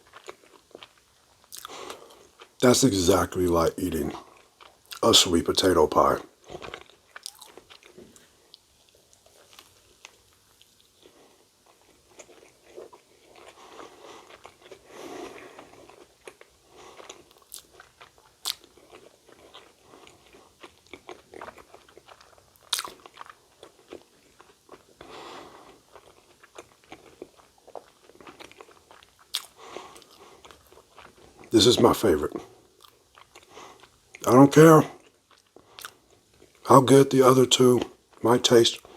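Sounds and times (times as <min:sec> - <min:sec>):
wet chewing mouth sounds: 0:00.0 - 0:02.6, 0:06.4 - 0:31.5, 0:32.3 - 0:34.2, 0:34.9 - 0:36.6
crunching of fried coating: 0:00.0 - 0:38.9.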